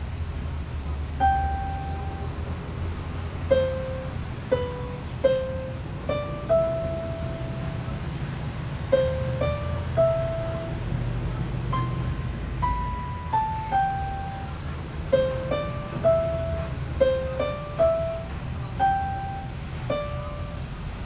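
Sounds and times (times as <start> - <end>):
slow plucked melody: 1.2 - 2.4, 3.5 - 8.1, 8.9 - 11.0, 11.7 - 20.9.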